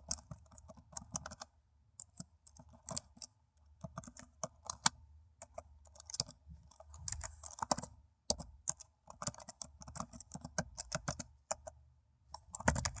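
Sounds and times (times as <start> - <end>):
laptop keyboard typing: 0.0 - 13.0.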